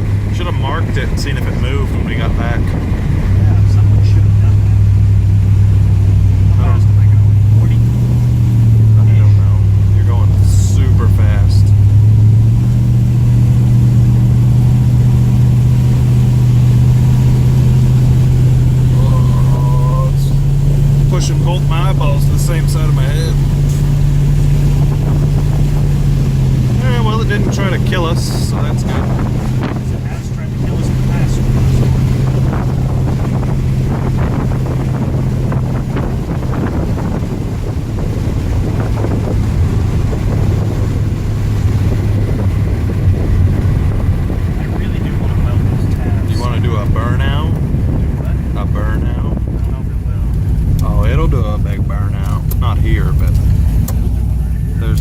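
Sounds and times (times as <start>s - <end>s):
car engine droning: 0.0s - 55.0s
road rumble: 0.0s - 55.0s.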